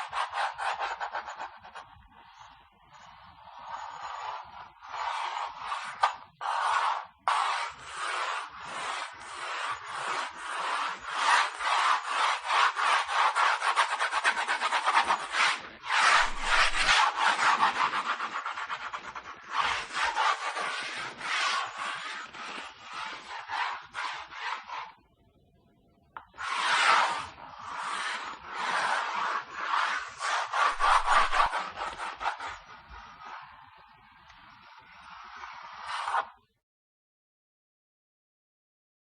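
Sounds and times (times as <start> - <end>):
pencil scratching on paper: 0.0 - 25.0, 26.4 - 36.4.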